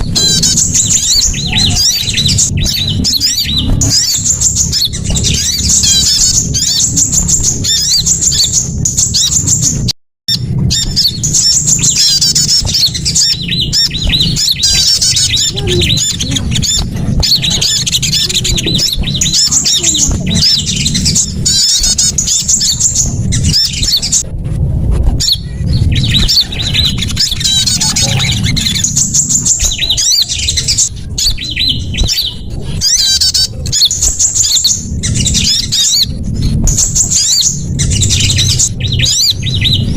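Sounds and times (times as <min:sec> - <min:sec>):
songbirds chirping and trilling: 0:00.0 - 0:39.9
steady low rumble: 0:00.0 - 0:39.9.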